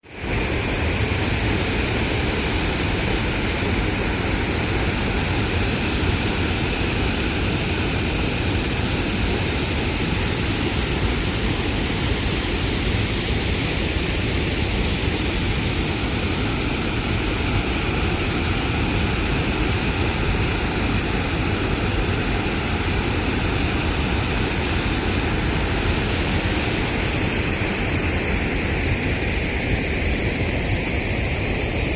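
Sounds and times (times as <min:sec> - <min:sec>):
waterfall roaring: 0:00.1 - 0:31.9.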